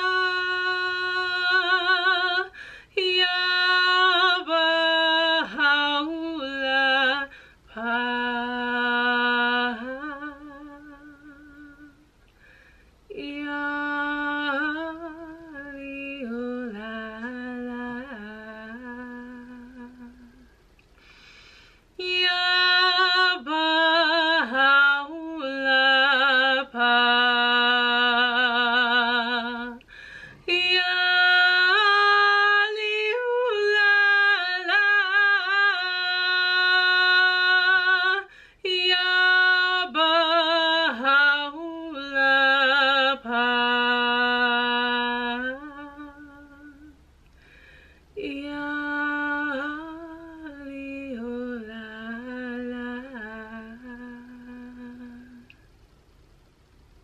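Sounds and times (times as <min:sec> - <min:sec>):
woman chanting: 0:00.0 - 0:12.0, 0:13.1 - 0:20.5, 0:22.0 - 0:47.0, 0:48.2 - 0:55.5.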